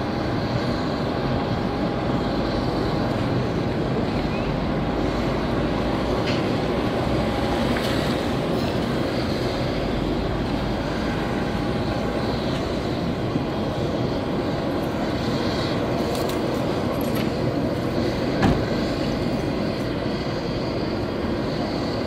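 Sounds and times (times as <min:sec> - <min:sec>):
aircraft and ground equipment drone: 0:00.0 - 0:22.0
faint steady whine: 0:00.0 - 0:22.0.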